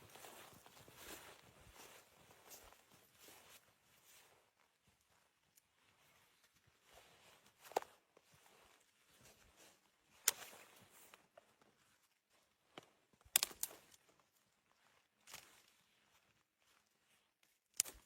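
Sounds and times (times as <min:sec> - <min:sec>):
faint rustling and handling noise: 0:00.0 - 0:18.0.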